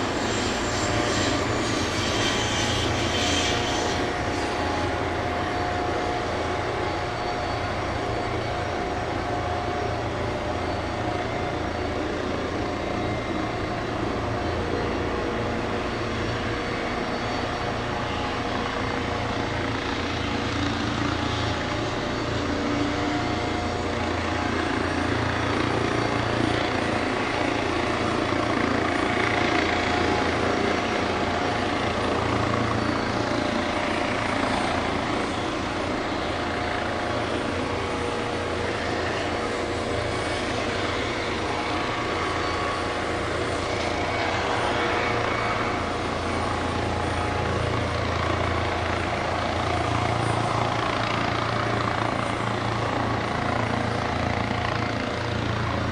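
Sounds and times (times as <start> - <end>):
helicopter engines whining: 0.0 - 55.9.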